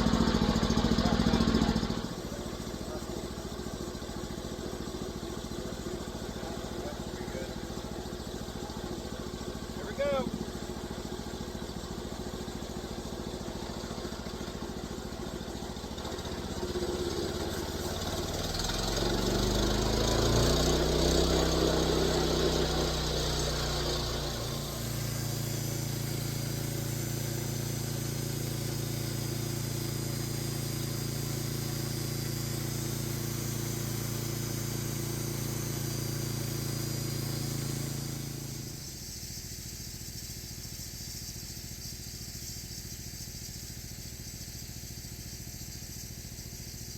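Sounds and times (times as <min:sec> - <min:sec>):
gasoline engine revving: 0:00.0 - 0:39.1.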